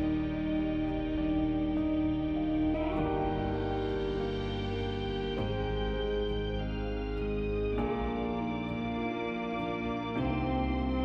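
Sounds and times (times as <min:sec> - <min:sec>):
music of sustained chords: 0:00.0 - 0:11.0.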